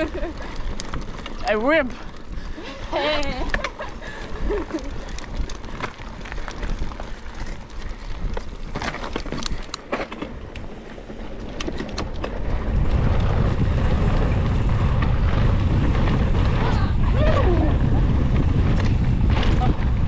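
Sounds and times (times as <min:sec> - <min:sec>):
bike rattling over bumps: 0:00.0 - 0:20.0
wind rumble on microphone: 0:00.0 - 0:20.0.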